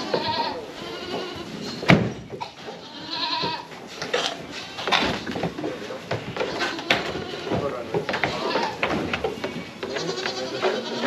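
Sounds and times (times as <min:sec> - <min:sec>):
goats bleating: 0:00.0 - 0:01.8, 0:02.4 - 0:11.0.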